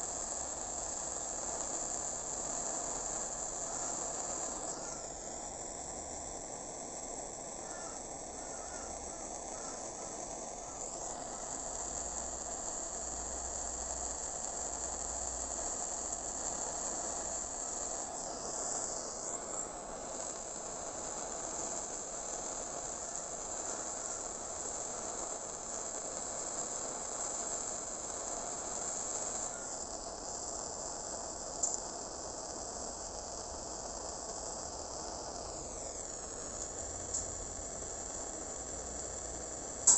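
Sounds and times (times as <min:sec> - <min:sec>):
blowtorch hissing: 0:00.0 - 0:39.9.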